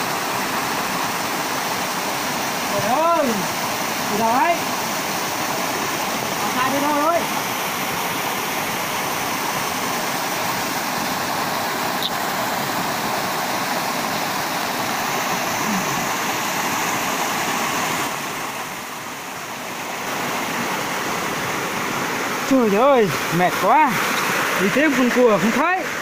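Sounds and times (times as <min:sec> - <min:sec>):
waterfall rushing over rocks: 0:00.0 - 0:26.0.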